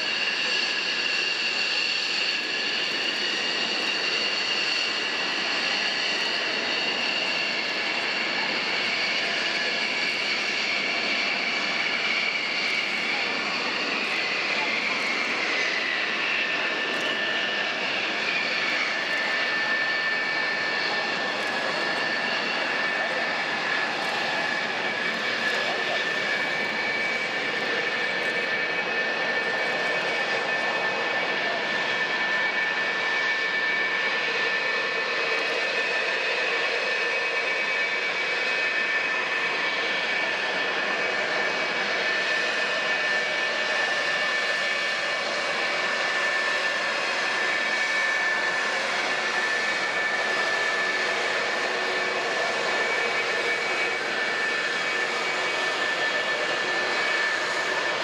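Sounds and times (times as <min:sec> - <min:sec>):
jet engines idling with whistle: 0:00.0 - 0:58.0.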